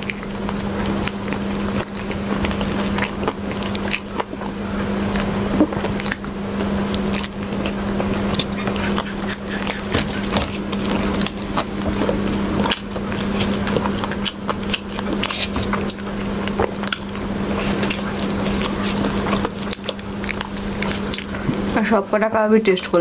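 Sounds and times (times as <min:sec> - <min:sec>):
chewing and biting food: 0:00.0 - 0:23.0
steady low hum: 0:00.0 - 0:23.0.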